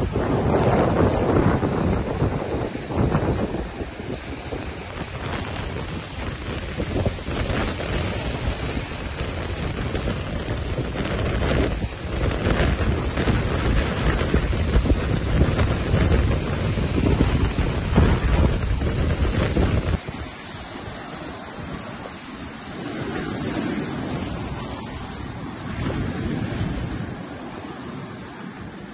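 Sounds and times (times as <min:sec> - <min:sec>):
surf breaking: 0:00.0 - 0:28.9
wind buffeting microphone: 0:00.0 - 0:28.9.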